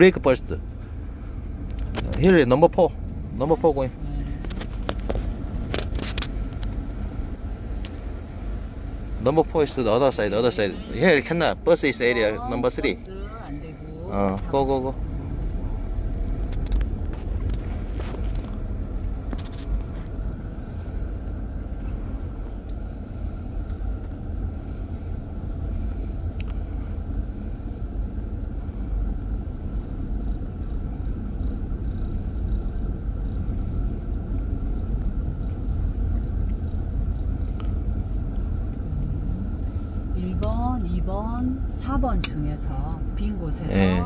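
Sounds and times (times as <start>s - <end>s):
car engine and tyre rumble: 0.0s - 44.0s.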